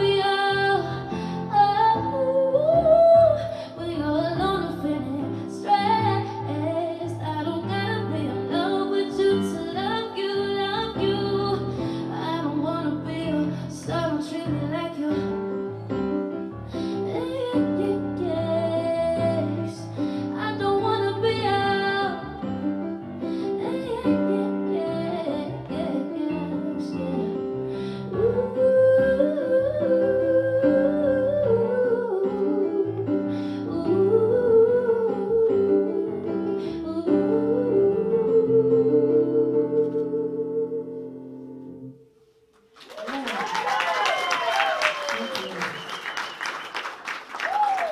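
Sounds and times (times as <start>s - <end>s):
woman singing: 0.0s - 15.7s, 16.8s - 41.4s.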